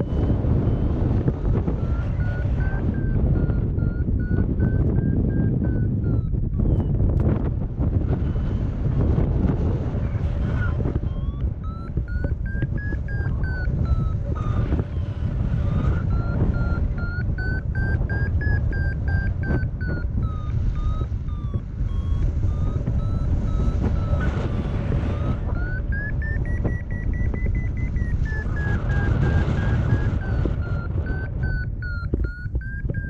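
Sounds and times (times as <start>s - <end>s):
variometer beeping: 0.0s - 33.0s
wind noise on microphone: 0.0s - 33.0s.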